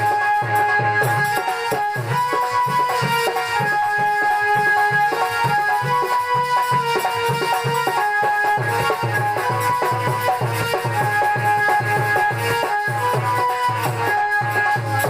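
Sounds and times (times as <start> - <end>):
held-note melody: 0.0 - 15.0
steady drum beat: 0.0 - 15.0.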